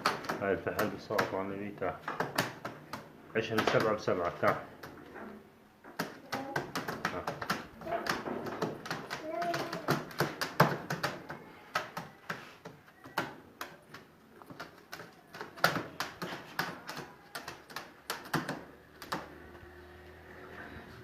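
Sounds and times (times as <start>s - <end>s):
sharp taps and clicks: 0.0s - 5.0s, 5.9s - 19.4s.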